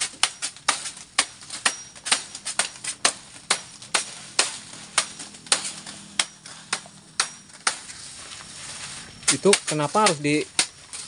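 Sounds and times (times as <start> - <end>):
sickles chopping grass: 0.0 - 11.0.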